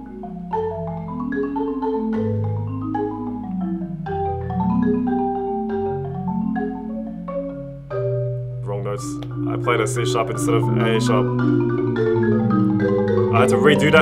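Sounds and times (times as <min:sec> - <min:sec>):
solo marimba: 0:00.0 - 0:14.0.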